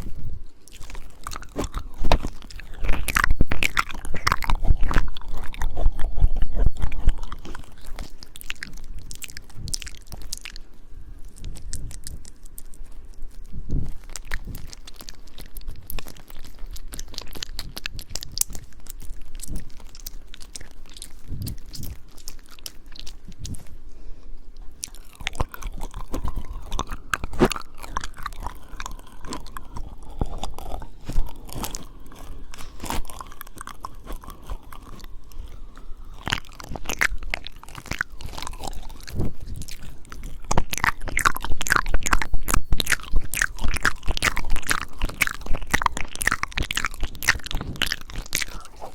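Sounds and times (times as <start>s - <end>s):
wet mouth sounds: 0.0s - 48.9s.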